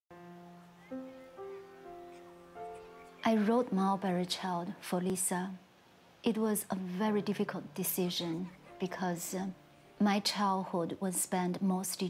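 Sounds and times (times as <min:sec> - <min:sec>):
soft music of held notes: 0:00.1 - 0:12.0.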